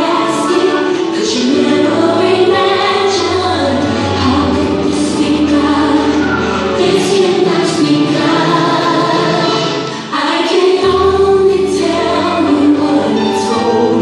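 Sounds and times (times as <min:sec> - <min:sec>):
music with choir singing: 0:00.0 - 0:14.0.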